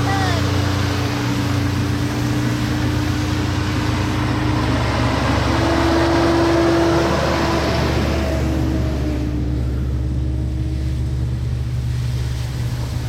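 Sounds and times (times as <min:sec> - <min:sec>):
vehicle engine droning hum: 0:00.0 - 0:13.0.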